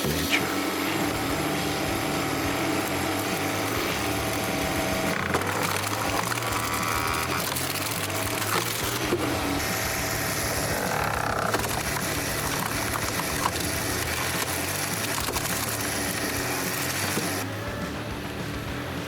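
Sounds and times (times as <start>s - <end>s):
background music: 0.0s - 19.0s
machine noise: 0.0s - 19.0s.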